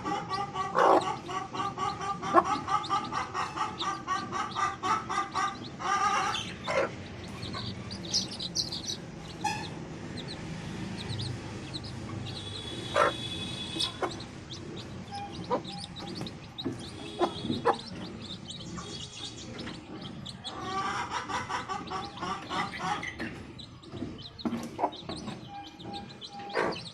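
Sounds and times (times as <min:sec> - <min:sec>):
chicks peeping: 0:00.0 - 0:26.9
hen clucking: 0:00.0 - 0:26.9.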